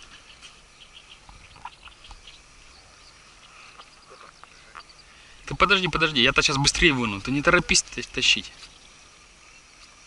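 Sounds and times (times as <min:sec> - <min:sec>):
faint bird chirps: 0:00.0 - 0:06.3, 0:07.3 - 0:10.0.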